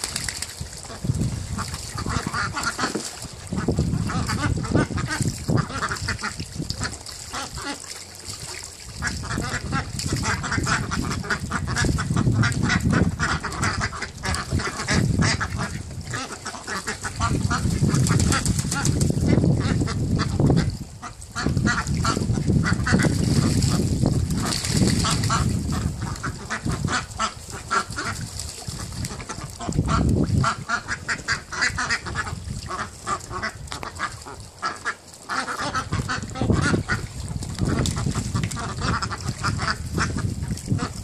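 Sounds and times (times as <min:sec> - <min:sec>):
ducks quacking: 0:00.8 - 0:41.0.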